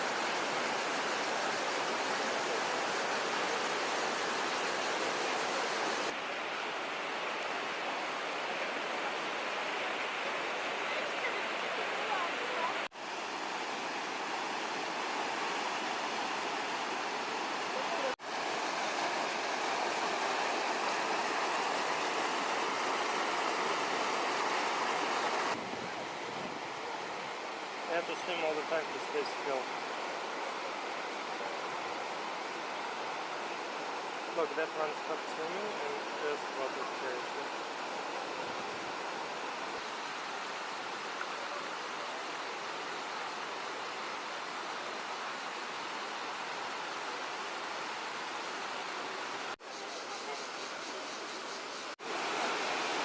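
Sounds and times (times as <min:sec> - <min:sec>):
river cascade rushing: 0:00.0 - 0:49.6, 0:52.0 - 0:53.0.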